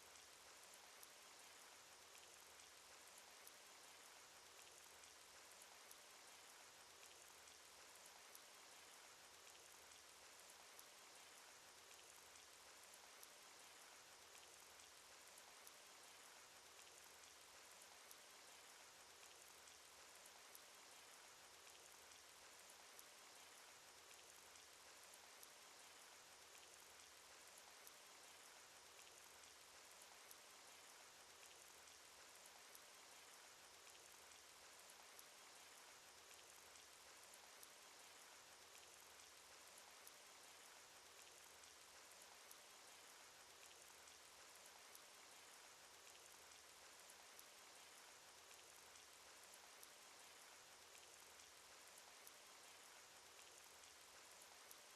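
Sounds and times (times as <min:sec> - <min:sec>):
raindrop ticks: 0:00.0 - 0:54.9.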